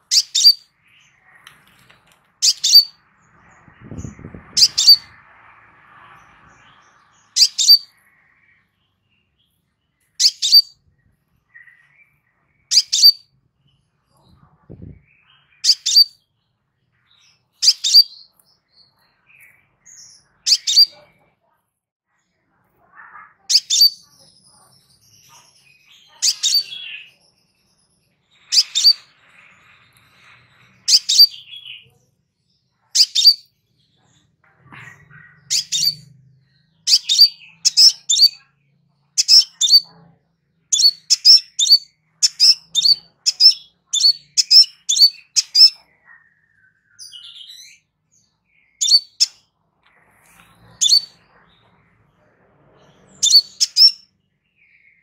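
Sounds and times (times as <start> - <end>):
bird chirping: 0.0 - 21.6, 22.3 - 55.0.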